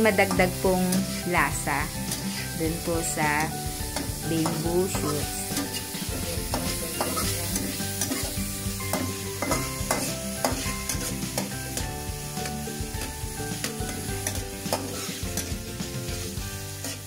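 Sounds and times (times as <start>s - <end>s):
meat sizzling in a wok: 0.0s - 17.0s
metal spatula scraping pan: 0.0s - 17.0s.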